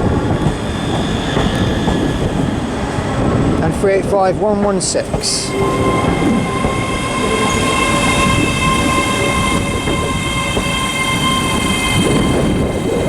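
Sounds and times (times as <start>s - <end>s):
electric train whine: 0.0s - 3.6s, 4.8s - 13.0s
train wheels rumbling on track: 0.0s - 13.0s.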